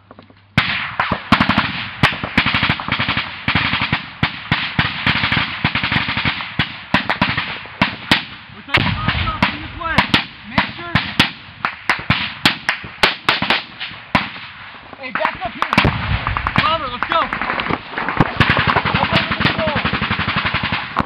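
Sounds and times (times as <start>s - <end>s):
automatic gunfire: 0.6s - 14.5s, 15.1s - 21.0s.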